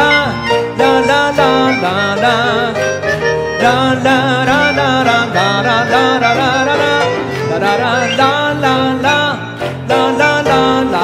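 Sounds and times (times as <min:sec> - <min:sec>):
man singing with vibrato: 0:00.0 - 0:11.0
piano accompaniment: 0:00.0 - 0:11.0.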